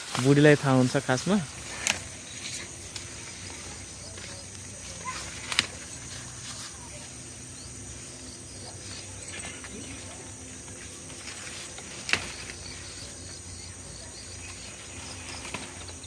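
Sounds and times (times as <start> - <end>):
crickets and insects chirring: 0.0 - 16.0
faint rustles: 0.0 - 16.0.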